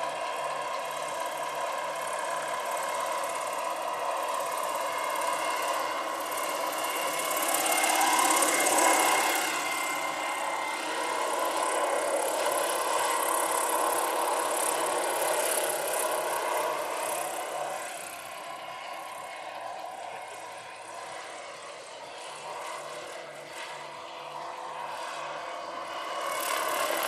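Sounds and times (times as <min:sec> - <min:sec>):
electric motor whine: 0:00.0 - 0:27.0.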